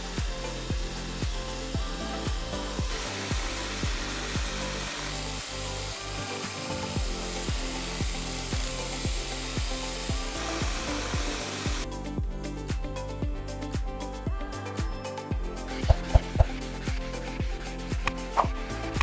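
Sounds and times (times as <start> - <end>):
background music with beat: 0.0 - 19.0.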